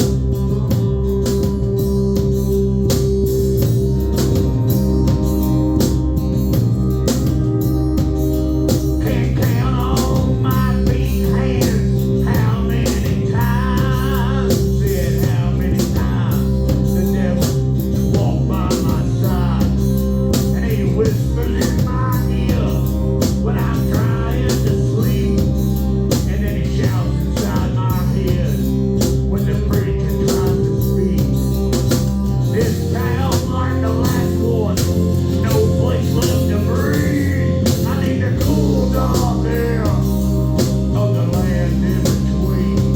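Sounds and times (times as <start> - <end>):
bass line: 0.0 - 42.9
drum kit: 0.0 - 42.9
electric guitar bent notes: 0.0 - 42.9.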